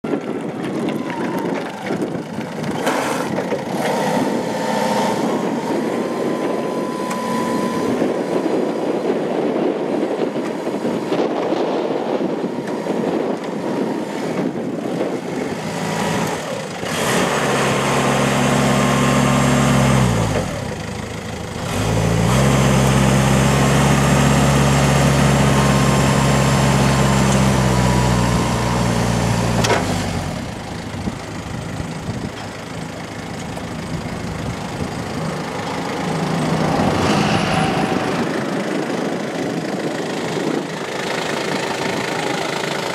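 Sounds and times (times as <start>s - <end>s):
forklift diesel engine revving: 1.6s - 9.6s, 12.5s - 42.9s.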